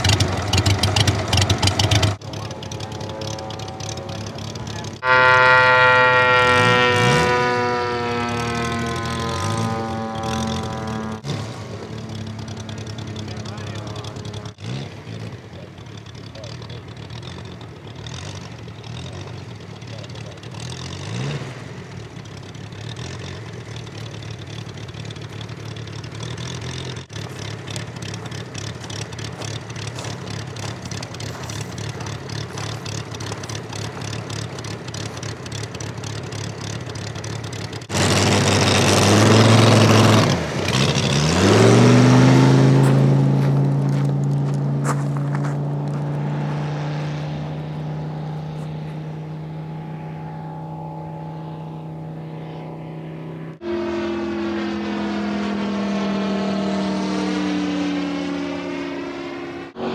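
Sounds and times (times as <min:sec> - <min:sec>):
model airplane engine running: 0:00.0 - 0:21.0, 0:21.9 - 0:41.3, 0:47.3 - 0:59.9.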